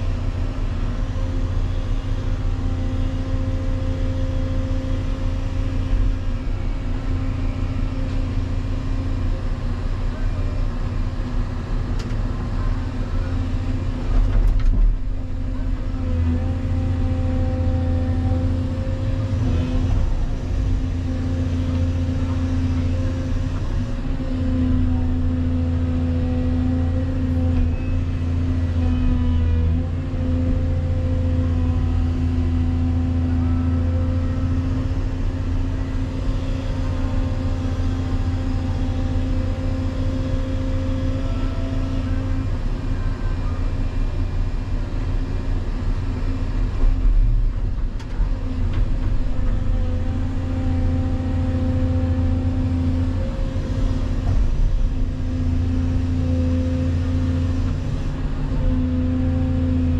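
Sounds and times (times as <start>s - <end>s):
excavator diesel engine working: 0.0s - 59.9s.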